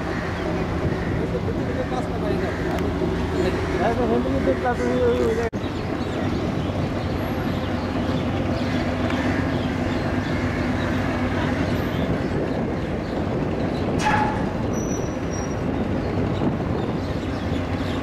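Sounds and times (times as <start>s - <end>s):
ferry engines droning: 0.0s - 18.0s.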